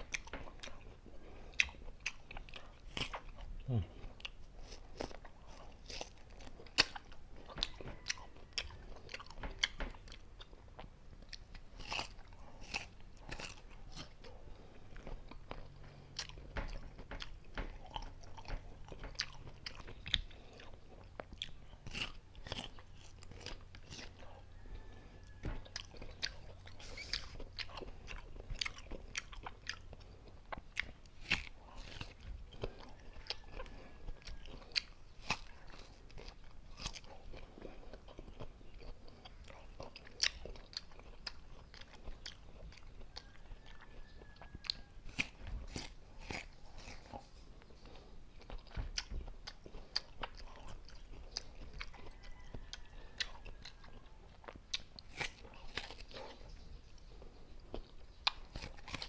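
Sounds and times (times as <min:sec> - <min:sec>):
crunching and chewing mango: 0:00.0 - 0:59.0.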